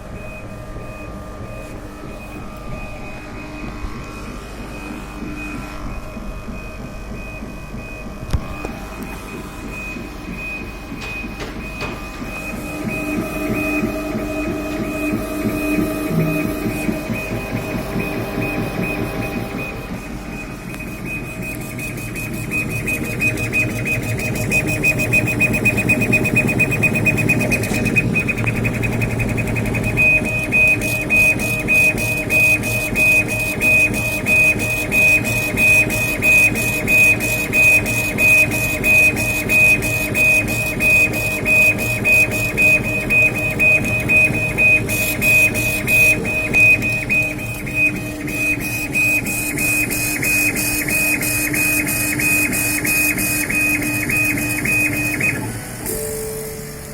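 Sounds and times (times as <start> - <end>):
laser engraver gantry whining: 0.0 - 56.9.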